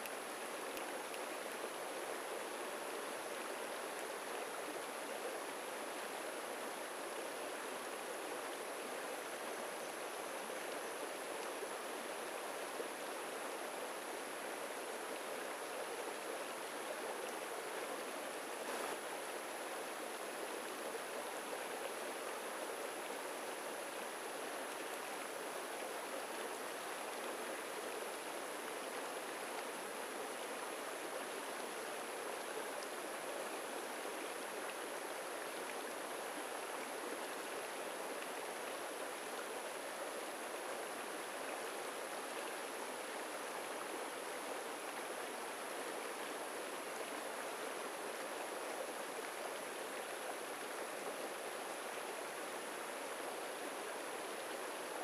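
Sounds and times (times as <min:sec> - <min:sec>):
stream rippling over stones: 0:00.0 - 0:55.0.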